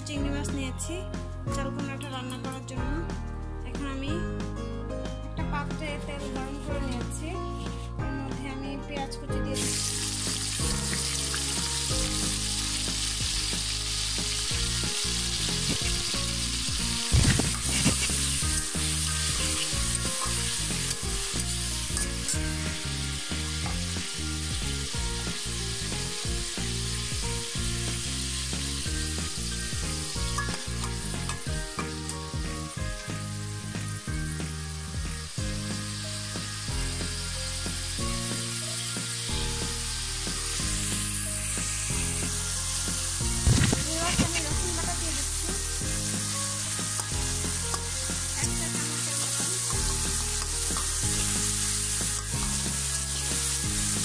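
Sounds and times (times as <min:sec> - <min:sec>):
onions sizzling in oil: 0:09.5 - 0:54.0.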